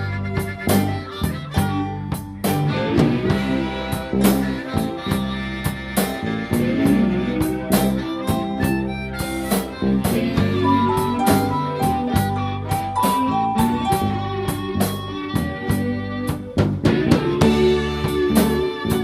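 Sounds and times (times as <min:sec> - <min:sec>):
drum kit beat: 0:00.0 - 0:19.0
harmonica: 0:00.0 - 0:19.0.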